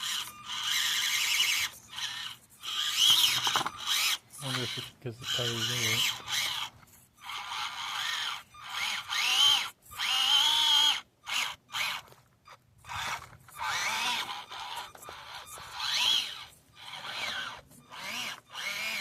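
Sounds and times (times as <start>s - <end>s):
small electric motor whining: 0.0s - 19.0s.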